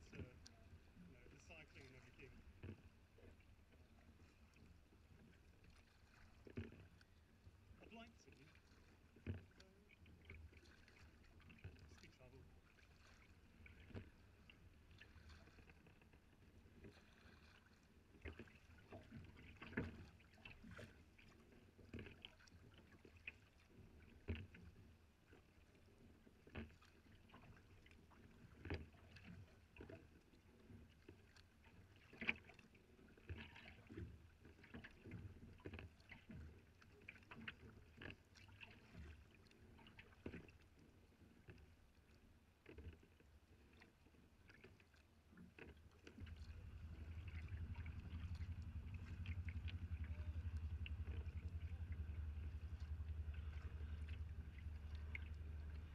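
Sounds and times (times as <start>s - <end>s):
paddle splashing: 0.0s - 55.9s
water lapping against hull: 0.0s - 55.9s.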